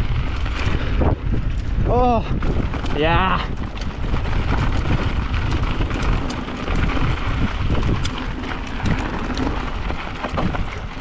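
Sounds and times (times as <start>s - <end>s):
bike tyres crunching on dirt: 0.0s - 11.0s
stones and bike rattling: 0.0s - 11.0s
wind rumbling on microphone: 0.0s - 11.0s.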